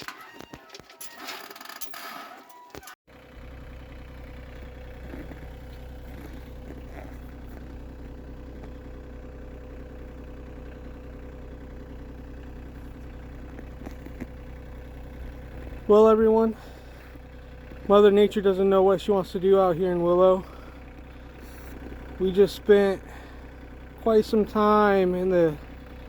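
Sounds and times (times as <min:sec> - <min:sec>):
engine idling: 0:03.1 - 0:26.0.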